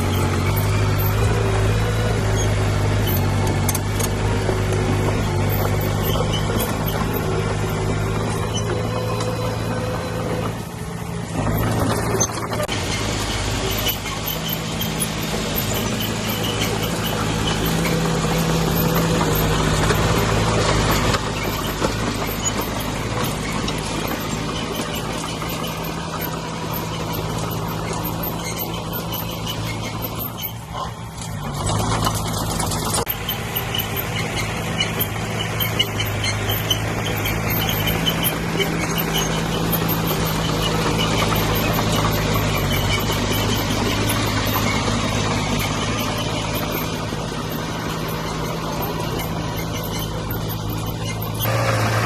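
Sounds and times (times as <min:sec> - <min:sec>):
diesel engine running under work: 0:00.0 - 0:52.0.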